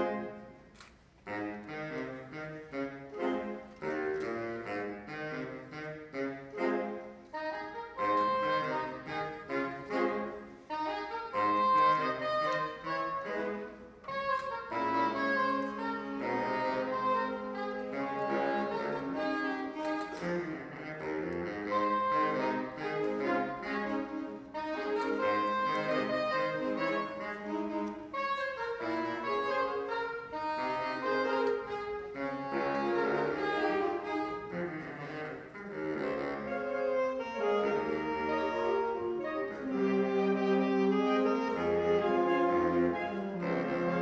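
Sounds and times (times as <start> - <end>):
saxophone ensemble playing: 0.0 - 44.0.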